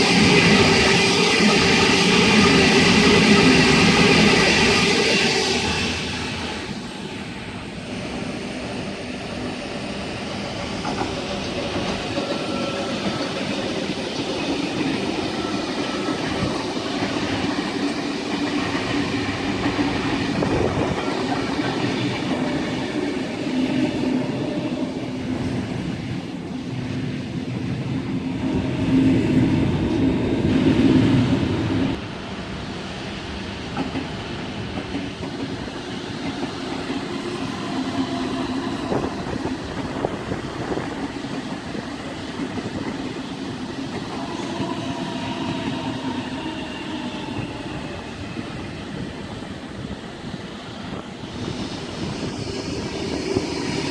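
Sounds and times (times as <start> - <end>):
train running past on rails: 0.0 - 53.9.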